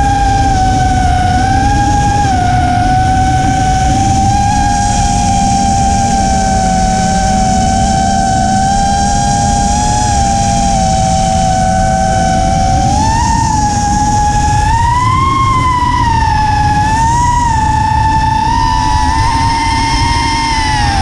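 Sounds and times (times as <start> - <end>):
drone electric motors whining: 0.0 - 21.0
rushing wind noise: 0.0 - 21.0.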